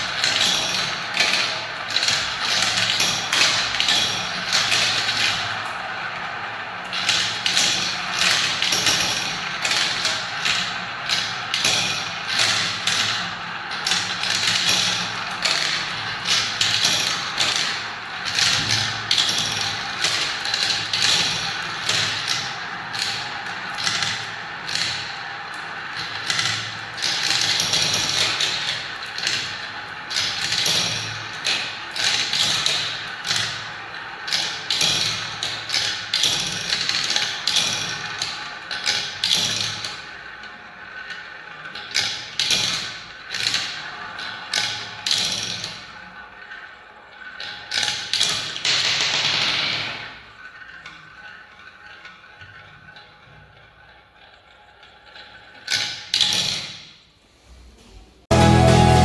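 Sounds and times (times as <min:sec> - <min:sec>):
marbles rolling on track: 0:00.0 - 0:56.8.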